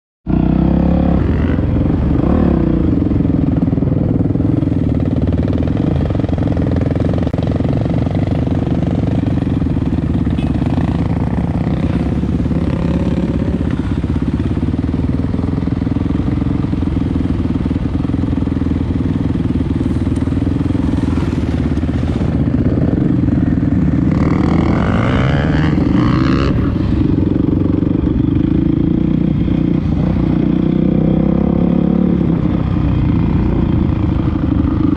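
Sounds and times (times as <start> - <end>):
dirt bike engine running: 0.3 - 34.9.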